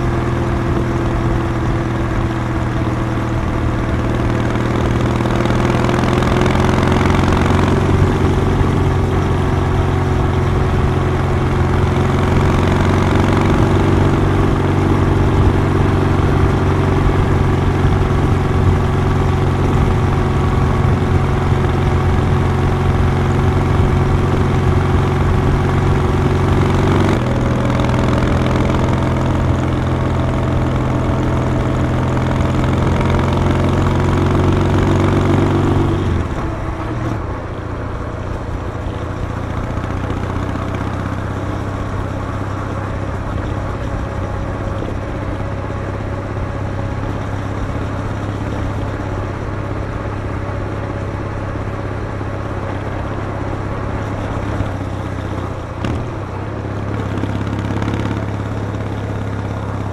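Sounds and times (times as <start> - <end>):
motorcycle engine and exhaust: 0.0 - 59.9.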